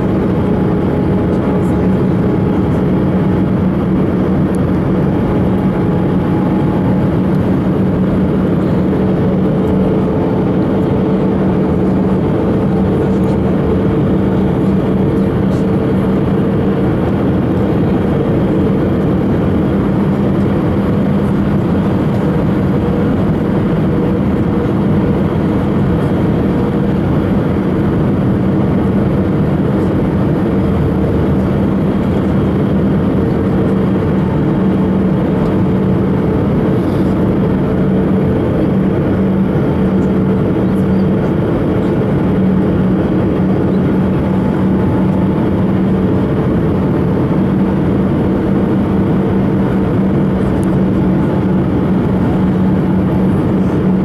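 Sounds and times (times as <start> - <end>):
jet engines and airflow rushing: 0.0 - 54.0
low hum: 0.0 - 54.0.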